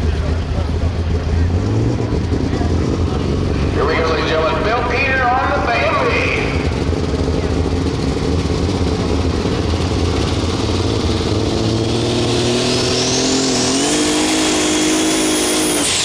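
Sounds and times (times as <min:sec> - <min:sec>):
high turbo whine: 0:00.0 - 0:16.0
tractor engine running hard: 0:00.0 - 0:16.0.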